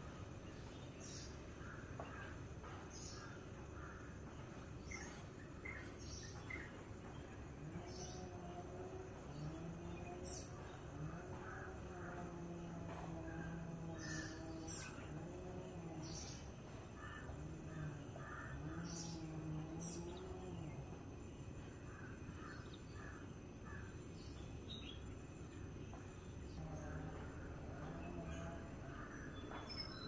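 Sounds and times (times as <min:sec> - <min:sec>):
birds chirping: 0:00.0 - 0:30.0
steady background hiss: 0:00.0 - 0:30.0
repeated lower bird calls: 0:00.6 - 0:25.0, 0:25.7 - 0:30.0
low wavering hum: 0:05.6 - 0:30.0.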